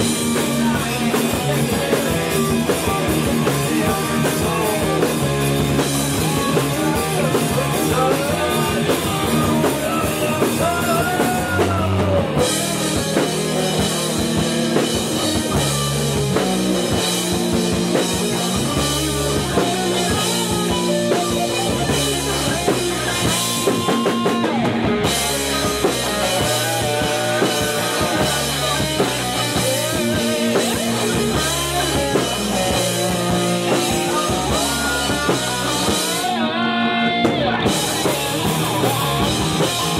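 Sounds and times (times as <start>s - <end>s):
person singing into microphone: 0.0s - 15.6s, 17.9s - 39.2s
distorted electric guitar: 0.0s - 39.9s
drum kit: 0.0s - 39.9s
electric bass: 0.0s - 39.9s.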